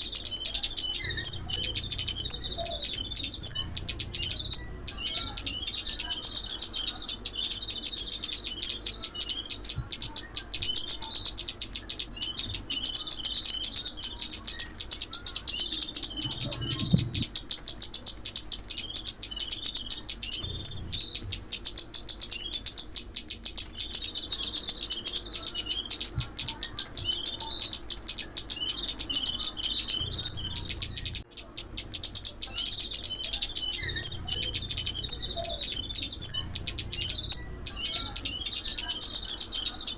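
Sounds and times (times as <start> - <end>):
songbird chirps and twitters: 0.0 - 39.9.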